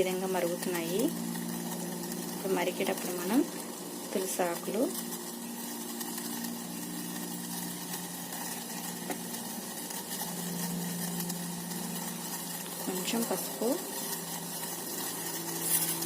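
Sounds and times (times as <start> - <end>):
steady low hum: 0.0 - 16.0
water boiling in a pot: 0.0 - 16.0.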